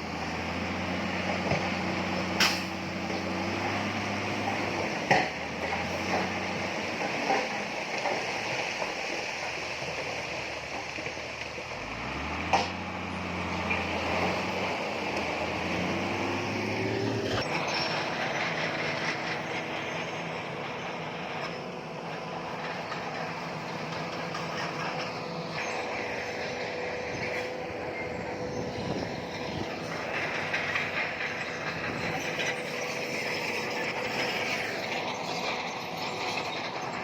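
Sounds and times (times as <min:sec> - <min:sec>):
bulldozer diesel engine running: 0:00.0 - 0:37.0
steel tracks clanking and squealing: 0:00.2 - 0:37.0.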